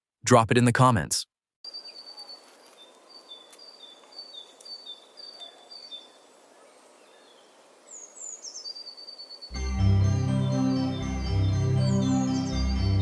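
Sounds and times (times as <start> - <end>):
faint outdoor background noise: 0.9 - 13.0
bird chirping: 1.7 - 13.0.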